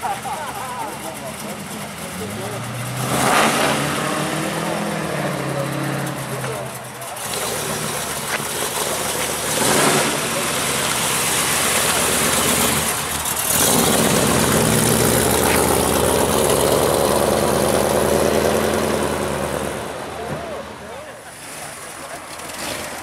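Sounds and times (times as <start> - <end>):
car engine revving and driving off: 0.0 - 23.0.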